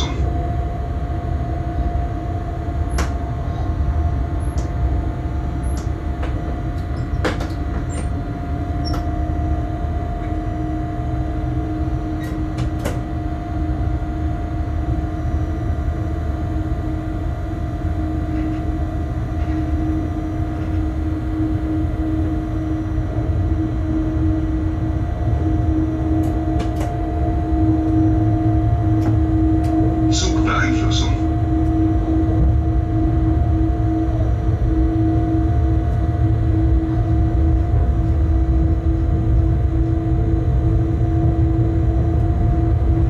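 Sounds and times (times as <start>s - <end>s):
electrical hum: 0.0s - 43.0s
locomotive rumble in cab: 0.0s - 43.0s.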